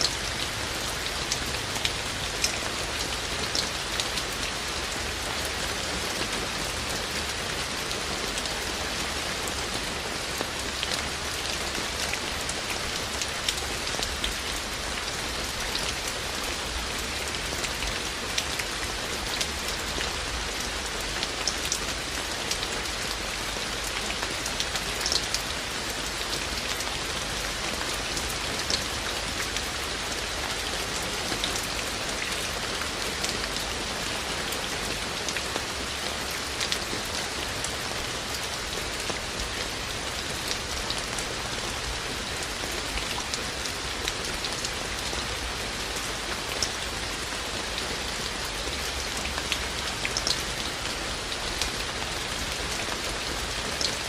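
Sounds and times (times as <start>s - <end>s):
raindrops ticking close by: 0.0s - 54.0s
steady rain falling: 0.0s - 54.0s.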